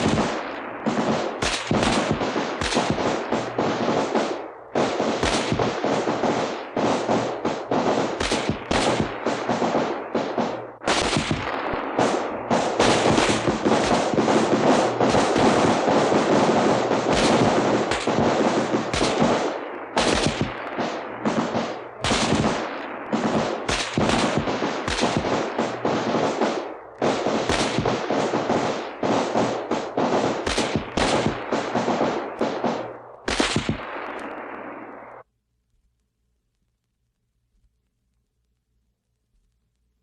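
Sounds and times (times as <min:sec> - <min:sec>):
rifles firing: 0:00.0 - 0:35.2.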